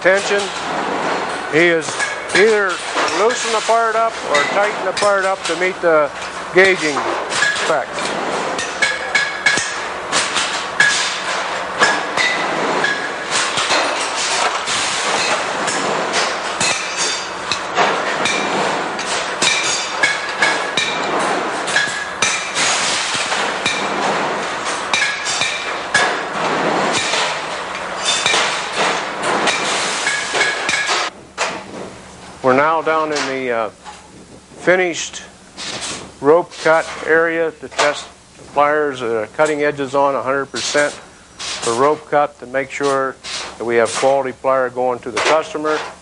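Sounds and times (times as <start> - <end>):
factory machinery noise: 0.0 - 46.0.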